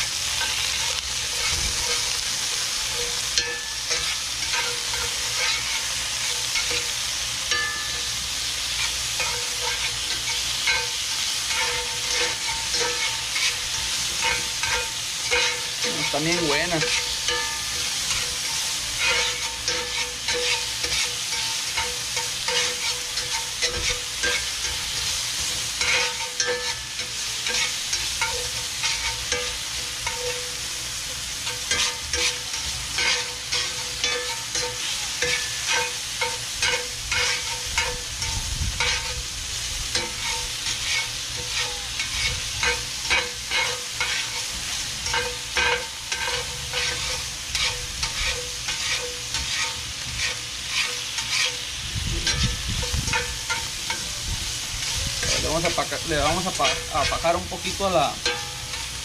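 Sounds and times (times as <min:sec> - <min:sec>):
meat sizzling in oil: 0:00.0 - 0:59.0
metal spatula scraping a pan: 0:00.2 - 0:59.0.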